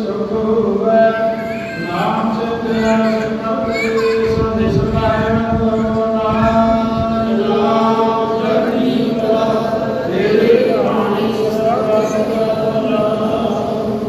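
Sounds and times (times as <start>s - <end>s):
congregation chanting: 0.0s - 14.0s.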